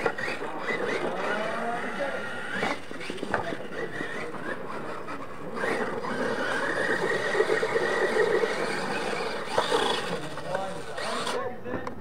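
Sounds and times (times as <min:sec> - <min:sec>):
toy truck motor whining: 0:00.0 - 0:11.5.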